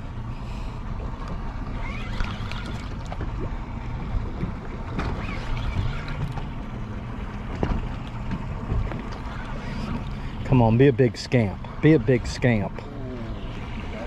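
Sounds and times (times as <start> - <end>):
boat engines idling: 0.0 - 14.0.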